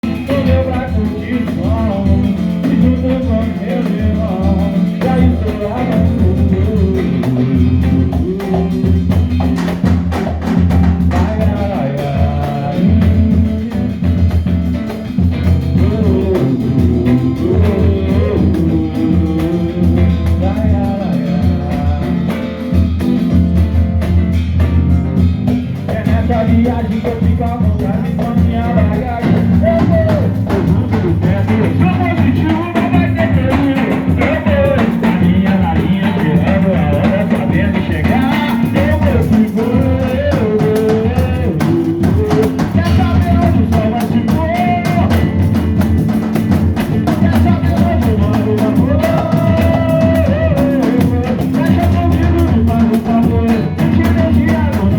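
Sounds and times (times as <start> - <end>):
person singing: 0.0 - 23.0, 25.8 - 54.9
percussion beat: 0.0 - 54.9.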